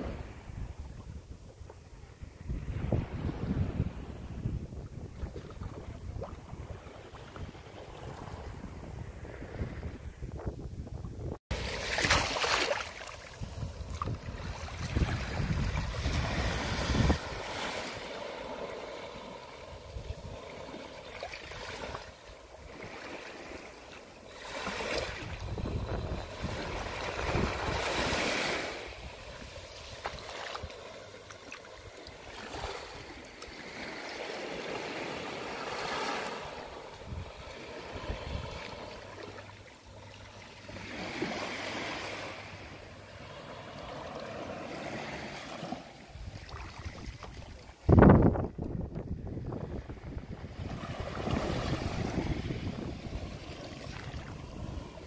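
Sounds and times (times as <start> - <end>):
small waves lapping on sand: 1.9 - 10.0, 11.5 - 55.0.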